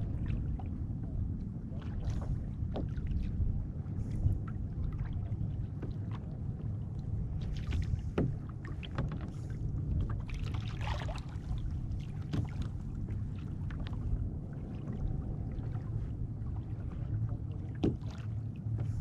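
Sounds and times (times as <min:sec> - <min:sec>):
small waves lapping against hull: 0:00.0 - 0:19.0
wind rumble on microphone: 0:00.0 - 0:19.0.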